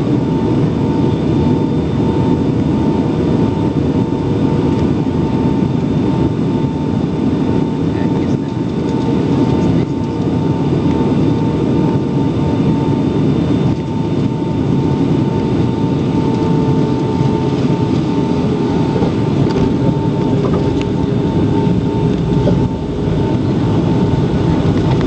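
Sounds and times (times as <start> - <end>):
airplane engine and airflow rumble: 0.0 - 25.0.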